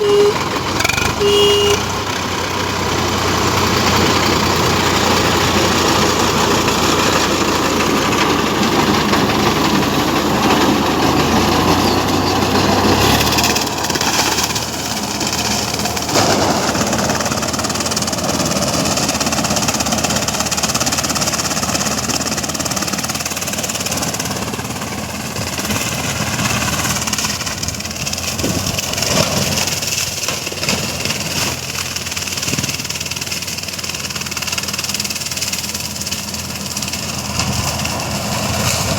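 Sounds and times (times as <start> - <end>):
tractor diesel engine rumbling: 0.0 - 38.9.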